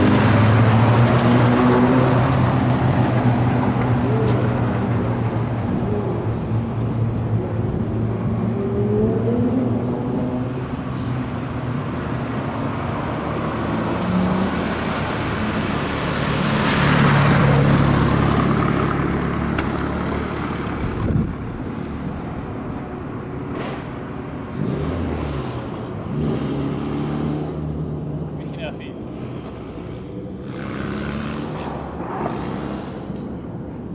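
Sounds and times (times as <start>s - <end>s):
race car passing at full throttle: 0.0s - 22.1s, 24.3s - 33.9s.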